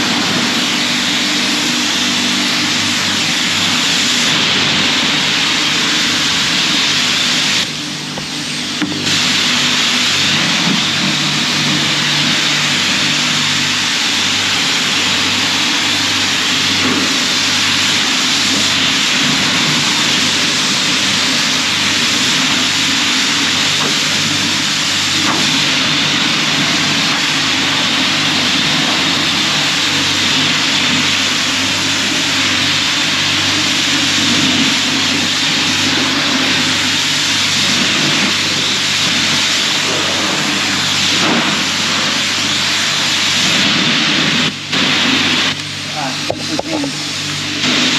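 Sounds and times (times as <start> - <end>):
pressure washer spraying water: 0.0 - 47.9.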